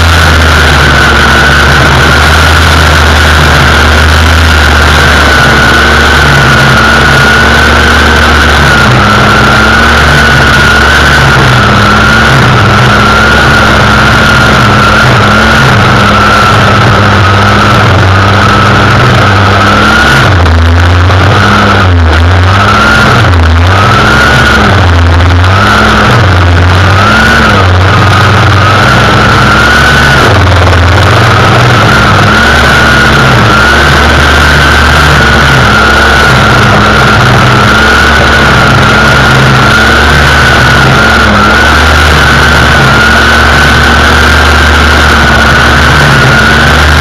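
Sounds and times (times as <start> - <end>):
string trimmer engine: 0.0 - 47.0.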